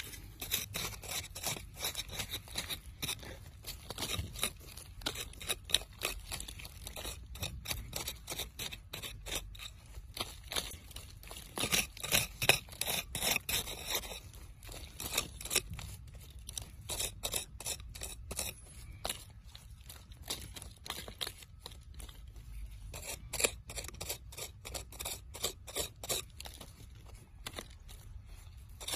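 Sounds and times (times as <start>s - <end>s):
stick scraping through gritty sand: 0.0s - 28.9s.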